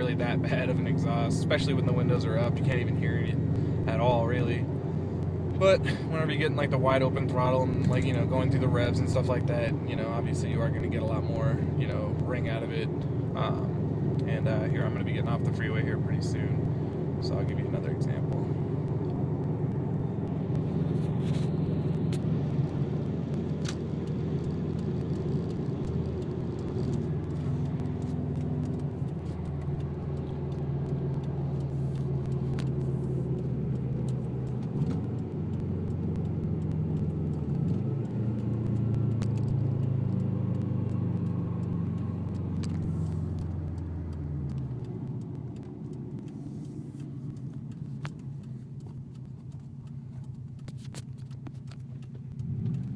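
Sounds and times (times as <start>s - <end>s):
turbocharged engine exhaust: 0.0s - 52.9s.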